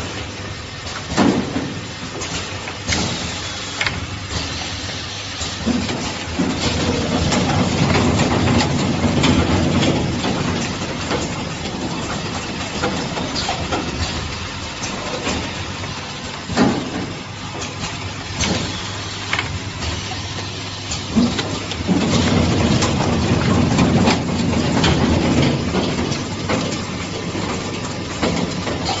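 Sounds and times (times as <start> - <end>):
machine clicks and knocks: 0.0 - 29.0.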